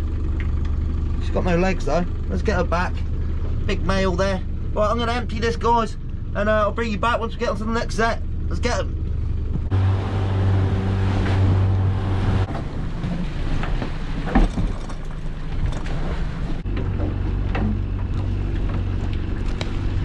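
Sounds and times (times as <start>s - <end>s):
boat engine running: 0.0s - 20.0s
wind: 0.0s - 20.0s.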